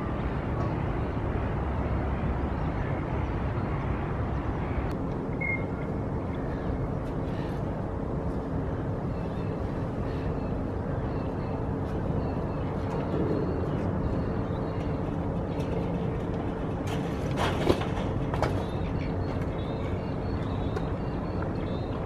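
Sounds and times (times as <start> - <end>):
steady outdoor rumble: 0.0 - 22.0.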